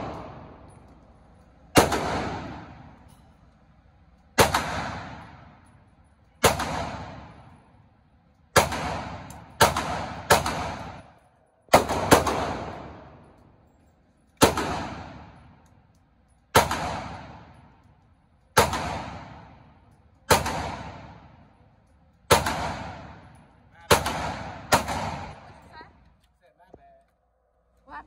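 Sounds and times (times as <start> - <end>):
gunshots echoing indoors: 0.0 - 25.7.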